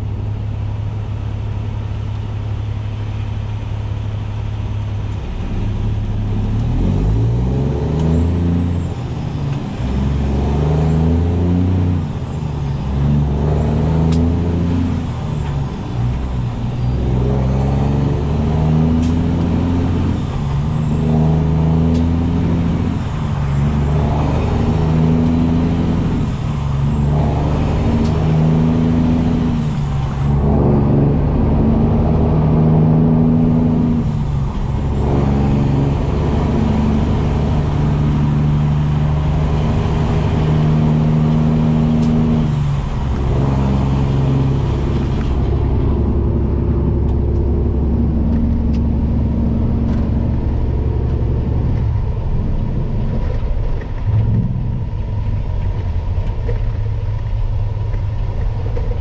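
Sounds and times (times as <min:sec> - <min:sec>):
diesel truck engine pulling: 0:00.0 - 0:59.0.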